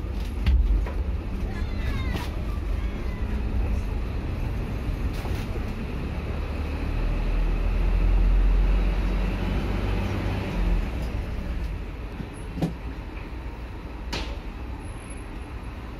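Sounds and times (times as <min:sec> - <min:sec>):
bus engine rumbling: 0:00.0 - 0:15.9.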